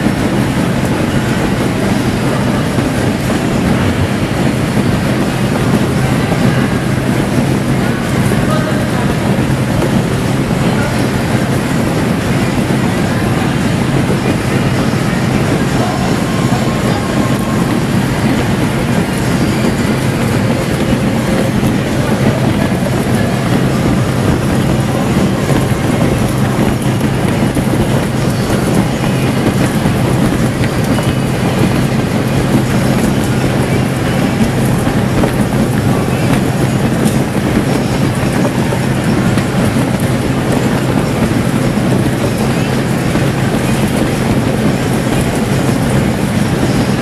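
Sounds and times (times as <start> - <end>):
machine motor hum: 0.0 - 47.0
suction rushing noise: 0.0 - 47.0.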